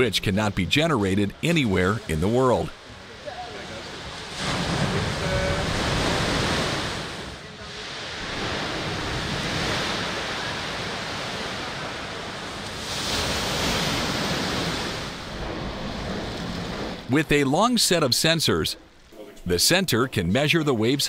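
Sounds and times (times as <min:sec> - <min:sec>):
waves crashing and churning: 0:00.0 - 0:21.0.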